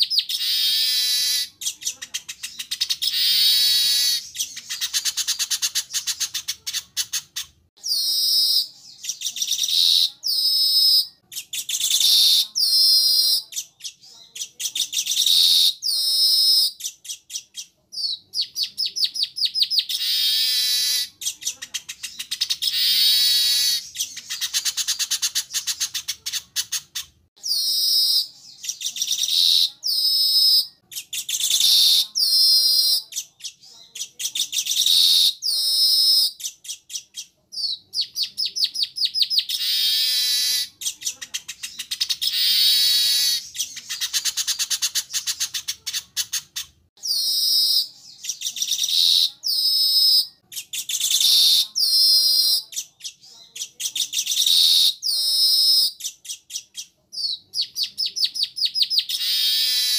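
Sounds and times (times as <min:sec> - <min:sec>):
birds chattering: 0:00.0 - 0:59.9.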